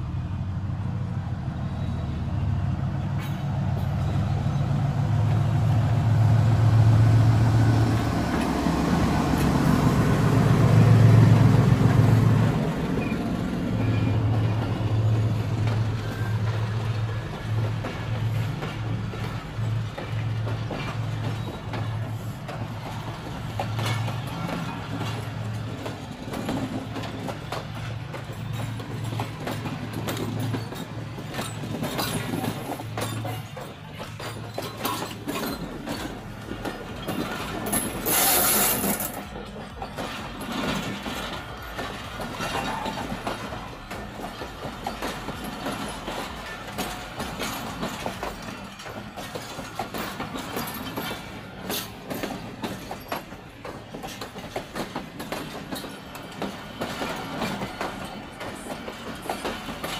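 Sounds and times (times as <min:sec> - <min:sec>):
train wheels clacking: 0:03.1 - 0:59.9.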